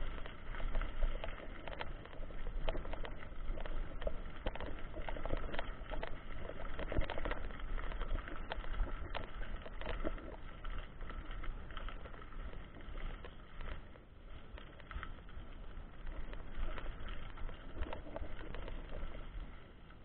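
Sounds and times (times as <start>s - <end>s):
low rumble of tyres: 0.0s - 20.0s.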